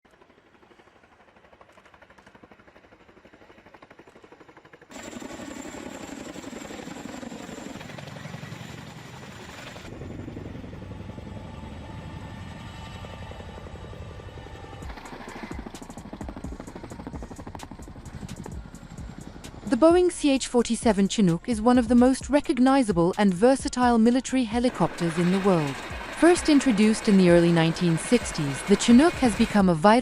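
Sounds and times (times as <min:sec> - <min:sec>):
helicopter rotor chop: 0:00.1 - 0:30.0.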